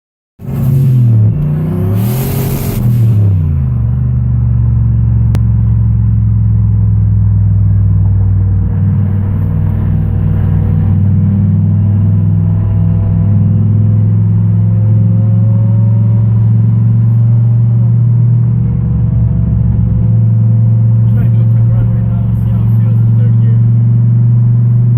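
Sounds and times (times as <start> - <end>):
car engine droning: 0.4 - 24.9
road noise: 0.4 - 24.9.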